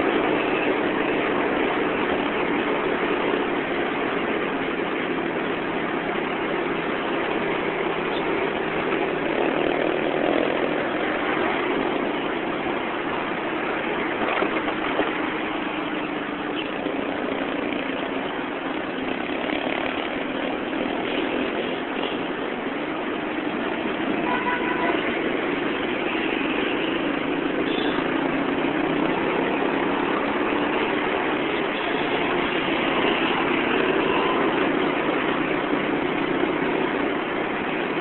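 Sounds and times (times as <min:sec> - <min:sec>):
surrounding cars and motorbikes: 0:00.0 - 0:38.0
vehicle engine humming: 0:00.0 - 0:38.0.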